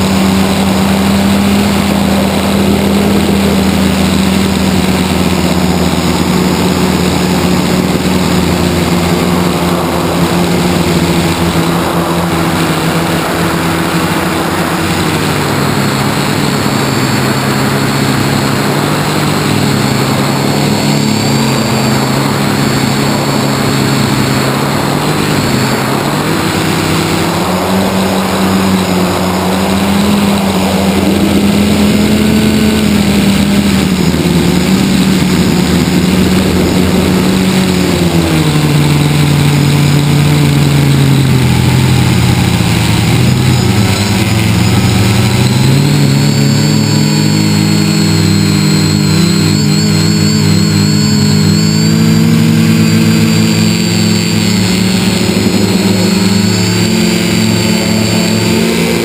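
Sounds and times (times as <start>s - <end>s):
wind rushing past microphone: 0.0s - 50.1s
electric motors high whine: 0.0s - 59.0s.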